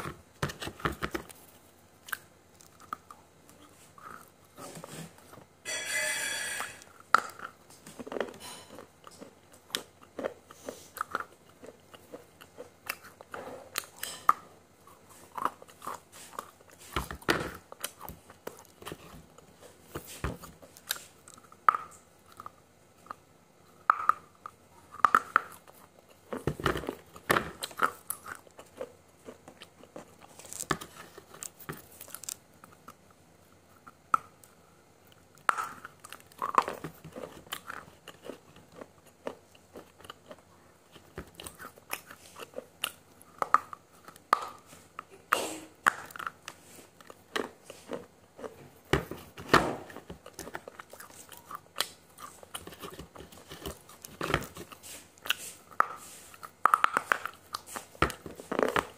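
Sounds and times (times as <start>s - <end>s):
crunching and chewing: 0.0s - 5.5s, 6.9s - 58.9s.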